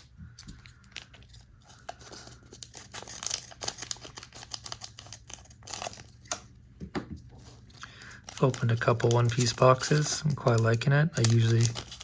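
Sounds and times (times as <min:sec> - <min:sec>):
foil wrapper crinkling: 0:00.7 - 0:06.4, 0:07.4 - 0:12.0.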